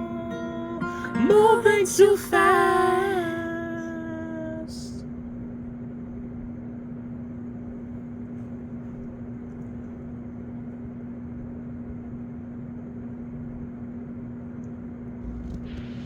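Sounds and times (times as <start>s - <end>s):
steady hum with low rumble: 0.0s - 16.0s.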